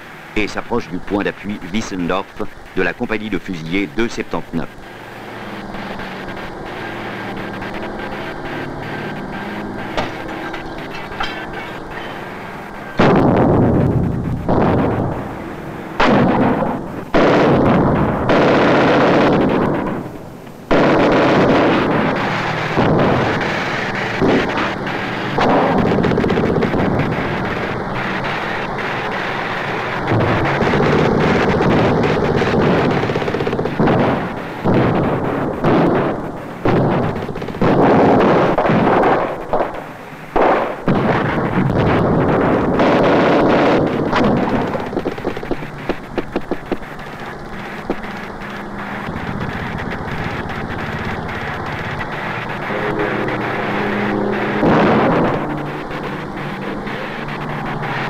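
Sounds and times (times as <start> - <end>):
explosions: 0.3 - 58.0
rifle and machine-gun fire: 2.8 - 58.0.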